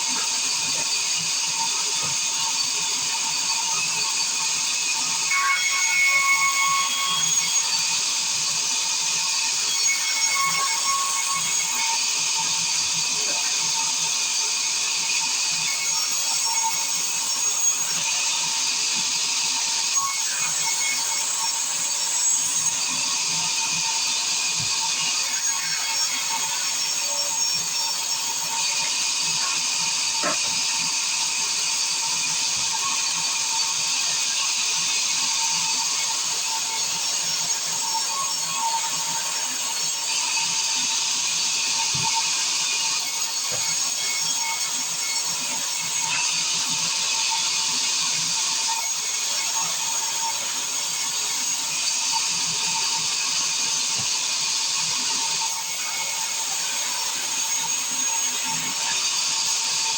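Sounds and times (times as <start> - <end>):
circular saw hissing and whining: 0.0 - 59.9.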